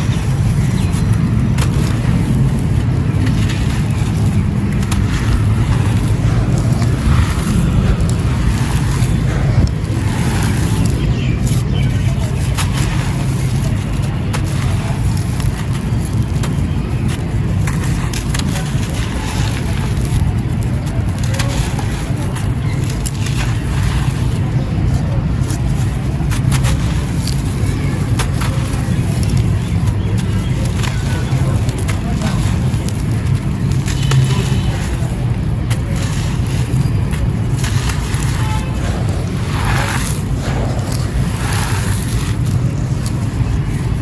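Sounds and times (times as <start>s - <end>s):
faint crackles: 0.0s - 44.0s
sand-cement chunks crushing: 0.0s - 44.0s
steady low rumble: 0.0s - 44.0s.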